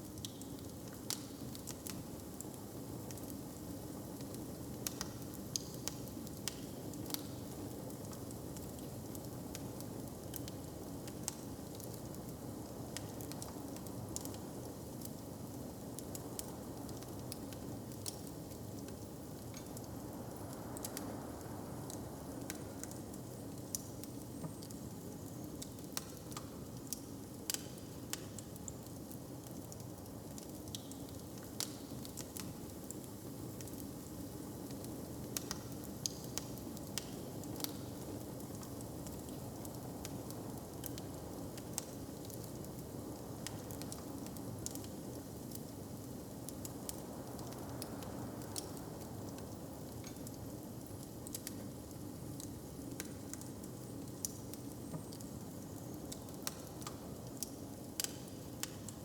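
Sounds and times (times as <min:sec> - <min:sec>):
room ambience hiss and rumble: 0:00.0 - 0:59.0
wood fire crackling and popping: 0:00.1 - 0:59.0.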